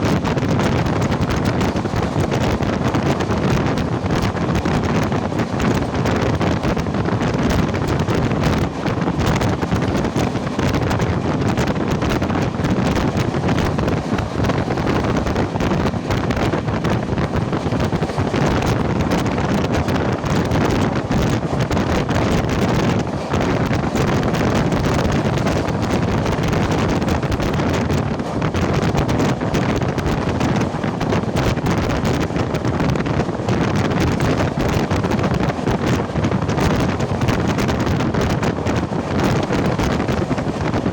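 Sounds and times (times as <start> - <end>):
moving train running noise: 0.0 - 40.9
wind buffeting microphone: 0.0 - 40.9.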